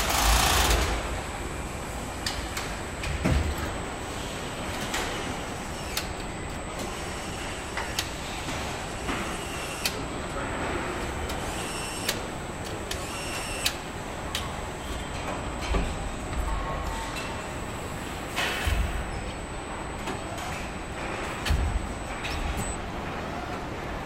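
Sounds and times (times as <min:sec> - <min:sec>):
machinery hum with high whine: 0:00.0 - 0:24.0.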